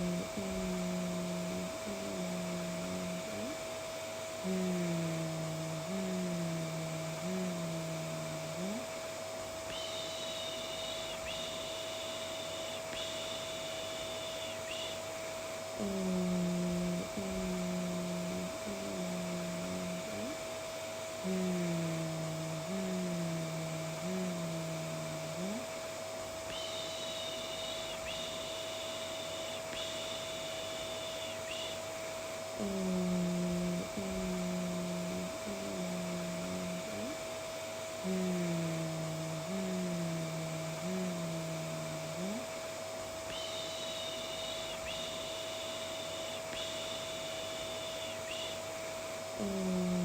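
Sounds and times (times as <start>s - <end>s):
person droning eee: 0.0s - 9.0s, 9.6s - 31.9s, 32.5s - 42.6s, 43.2s - 48.7s, 49.3s - 50.0s
vacuum cleaner running: 0.0s - 50.0s.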